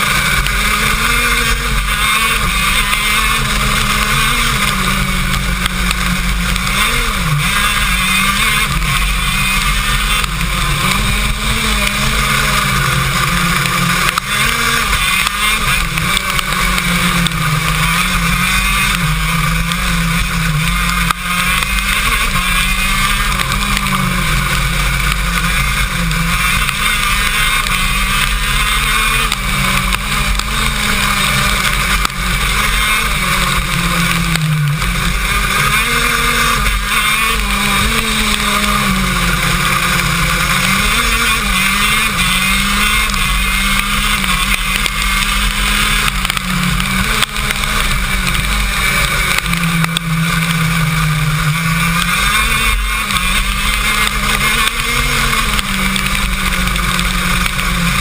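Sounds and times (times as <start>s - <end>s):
kart two-stroke engine running hard: 0.0s - 58.0s.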